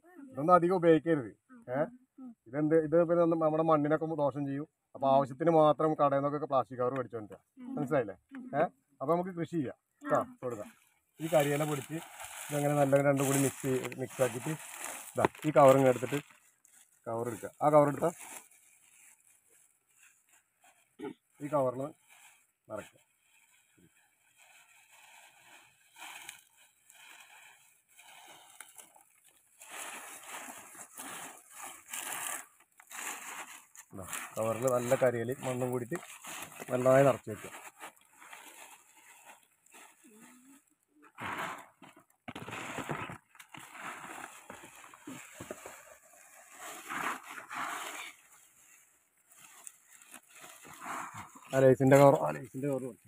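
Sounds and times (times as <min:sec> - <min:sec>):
dry leaves and soil crunching: 0:10.1 - 0:53.0
plastic bag rustling: 0:10.2 - 0:53.0.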